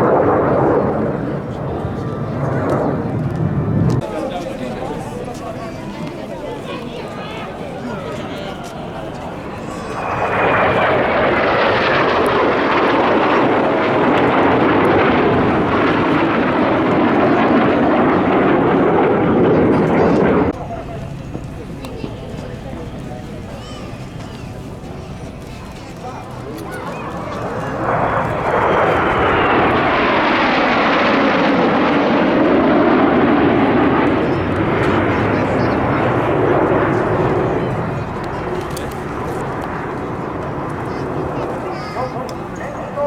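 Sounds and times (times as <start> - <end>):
jet aircraft passing: 0.0 - 43.0.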